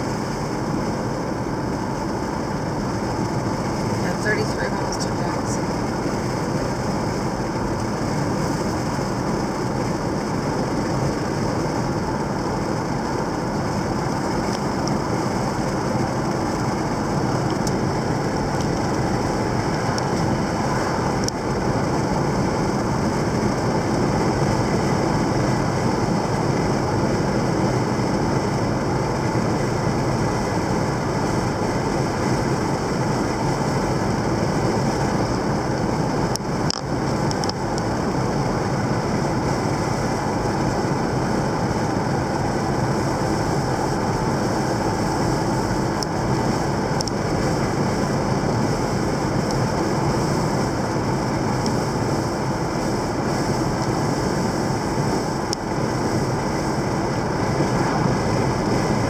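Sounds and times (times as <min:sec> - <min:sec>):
car road noise from inside: 0:00.0 - 0:59.0.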